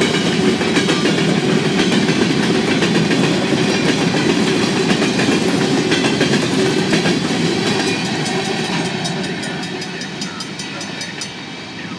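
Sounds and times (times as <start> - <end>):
rumble of wheels on rail: 0.0 - 11.9.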